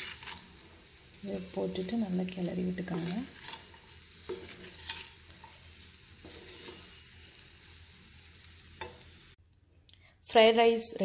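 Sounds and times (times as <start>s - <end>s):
rice sizzling in a hot pan: 0.0s - 9.4s.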